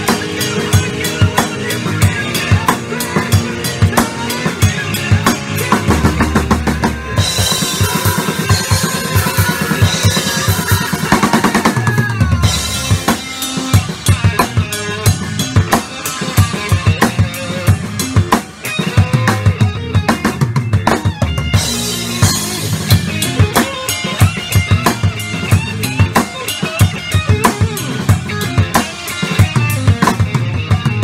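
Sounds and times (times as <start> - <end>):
rock backing track: 0.0 - 31.0
rock drum kit groove: 0.0 - 31.0.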